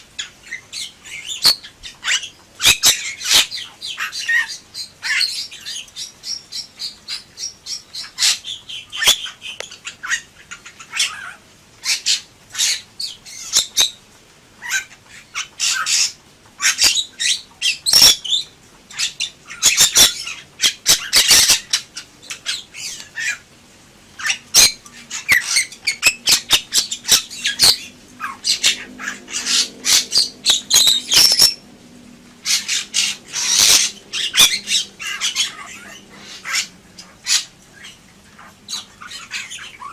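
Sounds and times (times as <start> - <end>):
bird squawking and chattering: 0.1 - 14.0, 14.6 - 23.5, 24.2 - 31.6, 32.4 - 39.9.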